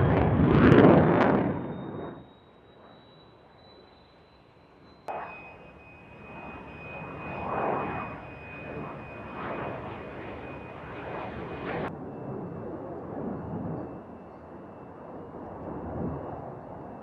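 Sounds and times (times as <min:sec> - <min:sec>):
aircraft engine passing: 0:00.0 - 0:17.0
faint high whine: 0:00.0 - 0:17.0.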